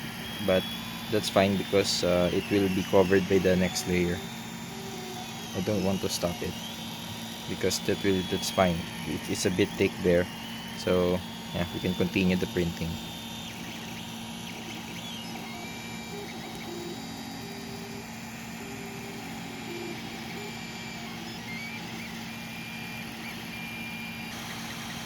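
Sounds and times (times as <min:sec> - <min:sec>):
cooling fans running: 0:00.0 - 0:25.0
stepper motors whining: 0:00.0 - 0:25.0.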